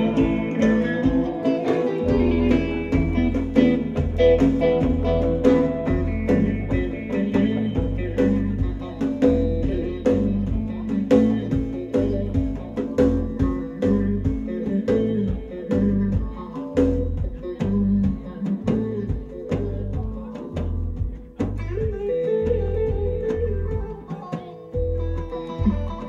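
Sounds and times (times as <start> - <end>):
bass guitar: 0.0 - 26.0
drum beat: 0.0 - 26.0
guitar playing: 0.0 - 26.0.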